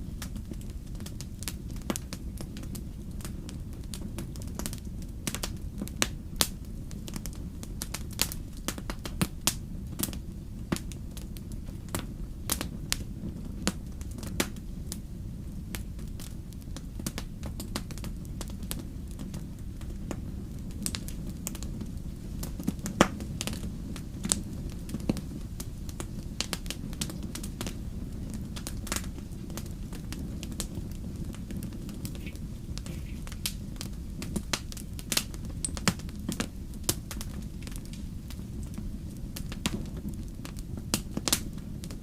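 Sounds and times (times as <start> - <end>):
fire crackling: 0.0 - 42.0.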